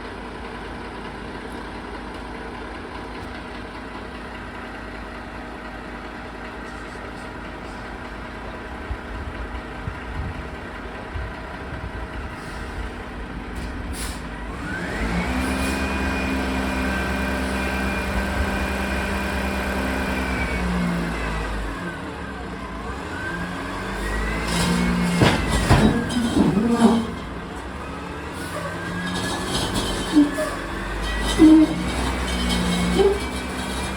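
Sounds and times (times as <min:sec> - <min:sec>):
truck diesel engine idling and revving: 0:00.0 - 0:33.9.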